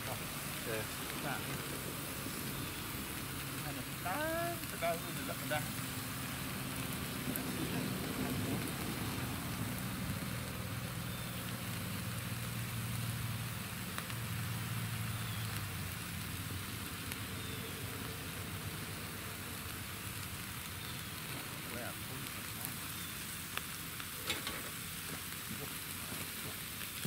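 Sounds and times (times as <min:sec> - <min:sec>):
even hiss: 0:00.0 - 0:27.0.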